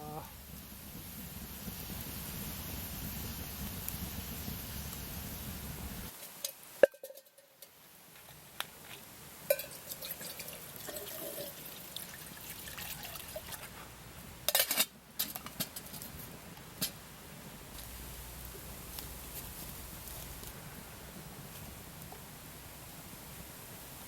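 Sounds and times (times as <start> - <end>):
faint fire hiss: 0.0 - 24.0
campfire crackling and popping: 0.2 - 13.7, 14.3 - 24.0.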